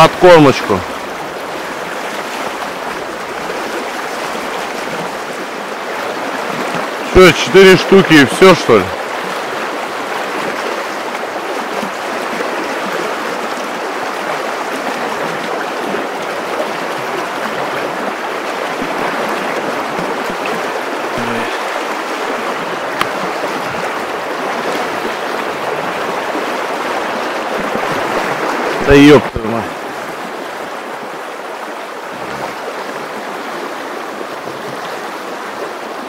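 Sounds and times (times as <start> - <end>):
river water rushing and splashing: 0.0 - 36.0.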